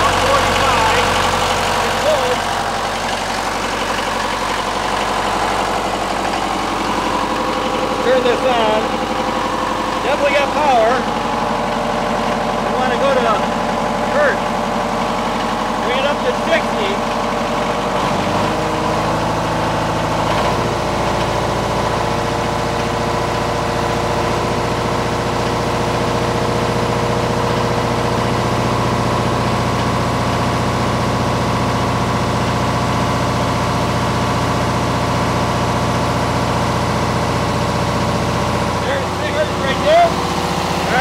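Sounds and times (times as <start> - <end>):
diesel generator running: 0.0 - 41.0.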